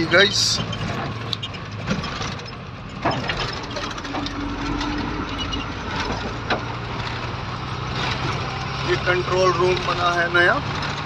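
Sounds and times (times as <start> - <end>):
sharp rattles in truck cab: 0.0 - 11.0
truck engine running: 0.0 - 11.0.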